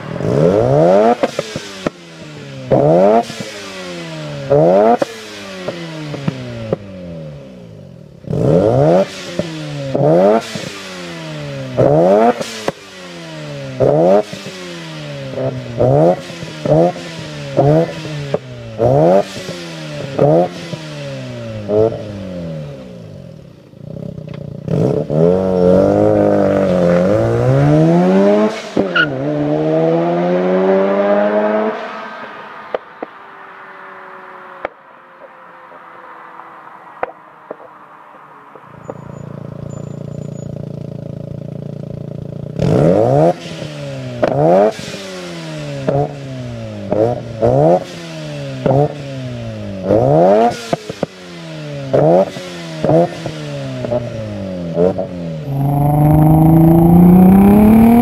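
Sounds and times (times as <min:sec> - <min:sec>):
engine revving: 0:00.0 - 0:34.8, 0:41.0 - 0:58.0
rotary engine accelerating: 0:00.0 - 0:37.6, 0:40.6 - 0:58.0.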